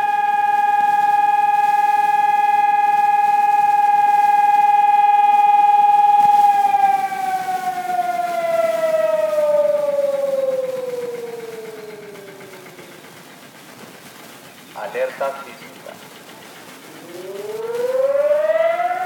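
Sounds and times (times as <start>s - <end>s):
alert siren: 0.0s - 13.2s, 16.7s - 19.0s.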